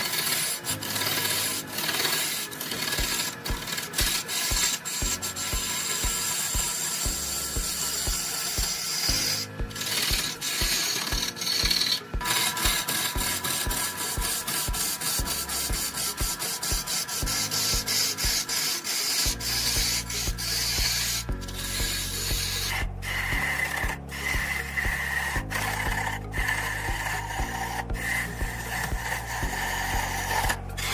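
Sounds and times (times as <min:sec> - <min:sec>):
abrasive scraping wood: 0:00.0 - 0:30.9.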